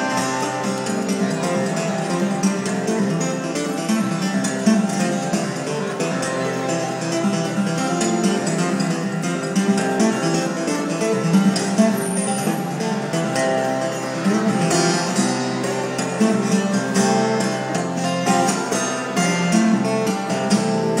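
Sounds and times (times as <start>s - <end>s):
fingerpicked acoustic guitar: 0.0s - 21.0s.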